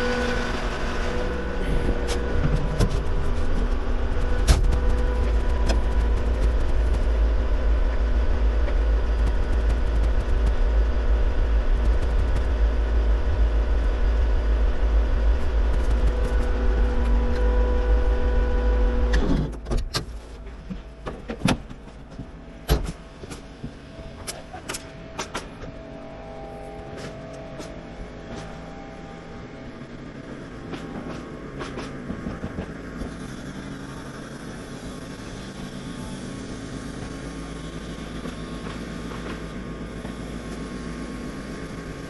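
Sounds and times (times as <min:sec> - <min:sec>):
engine rumbling: 0:00.0 - 0:42.0.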